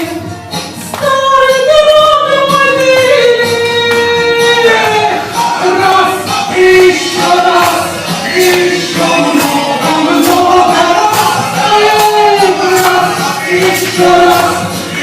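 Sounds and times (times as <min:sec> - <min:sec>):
person singing: 0:01.0 - 0:15.0
steady percussion beat: 0:02.3 - 0:15.0.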